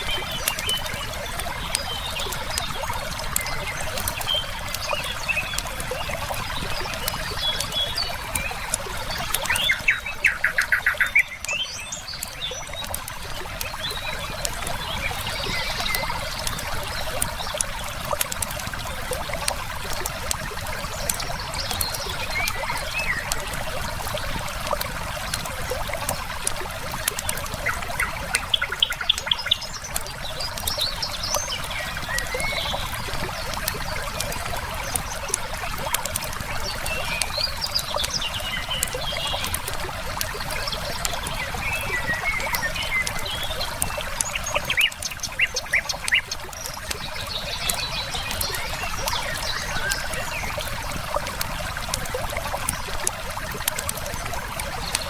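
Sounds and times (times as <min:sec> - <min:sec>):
river water flowing: 0:00.0 - 0:55.0
songbirds chirping: 0:00.0 - 0:55.0
firewood crackling: 0:00.1 - 0:55.0.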